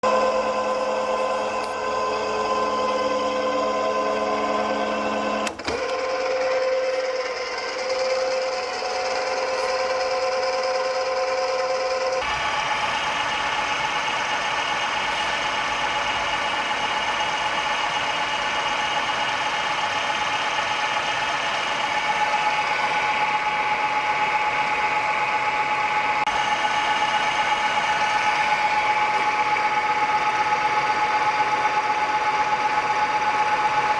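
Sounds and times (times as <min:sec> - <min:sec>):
drilling machine whine: 0:00.0 - 0:33.9.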